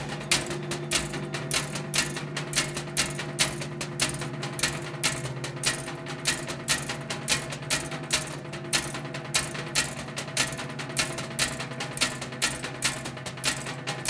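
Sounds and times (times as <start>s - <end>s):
rapid dry percussion clicks: 0.0s - 14.0s
steady low hum: 0.0s - 14.0s.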